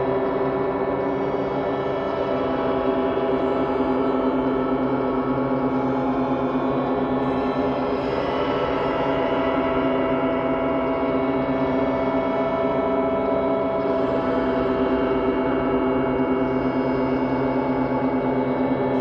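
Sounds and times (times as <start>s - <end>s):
dark ambient drone music: 0.0s - 19.0s.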